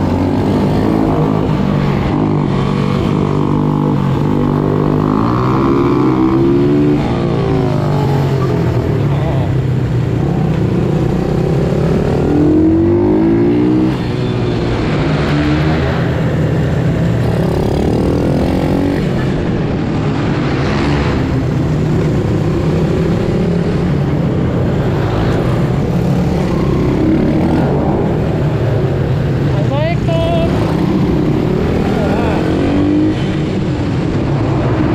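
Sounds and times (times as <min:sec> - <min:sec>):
pit bike engines revving: 0:00.0 - 0:34.9.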